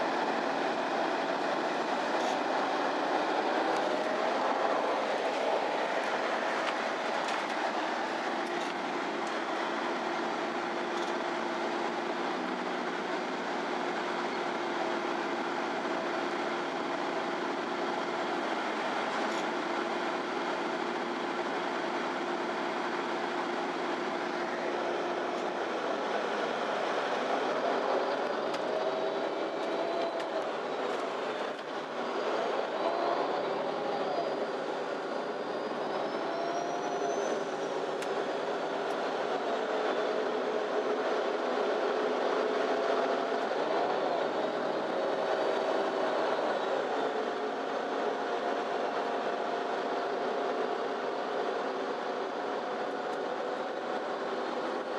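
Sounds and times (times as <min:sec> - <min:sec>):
bus engine and drivetrain whine: 0:00.0 - 0:54.9
road noise: 0:00.0 - 0:54.9.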